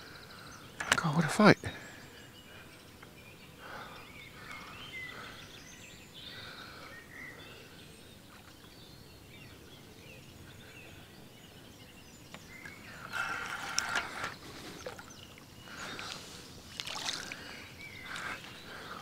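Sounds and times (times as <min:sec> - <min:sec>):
faint birdsong chirps: 0:00.0 - 0:19.0
outdoor background noise: 0:00.0 - 0:19.0.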